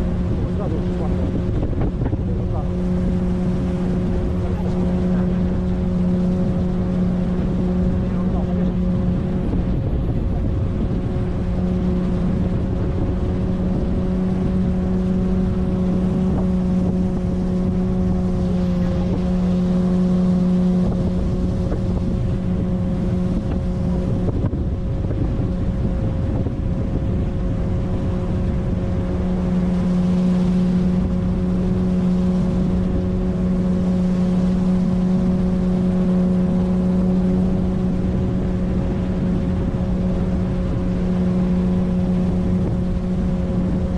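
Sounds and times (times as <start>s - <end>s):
outboard motor running: 0.0s - 43.9s
water and wind hiss: 0.0s - 43.9s.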